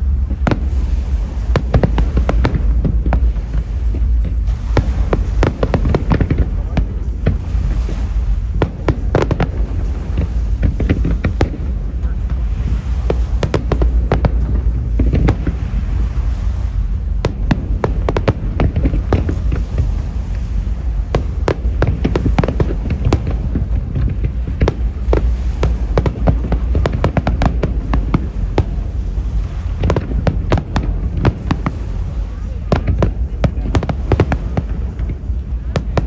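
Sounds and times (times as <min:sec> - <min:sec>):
fireworks cracks and bangs: 0:00.0 - 0:36.0
low rumble: 0:00.0 - 0:36.0.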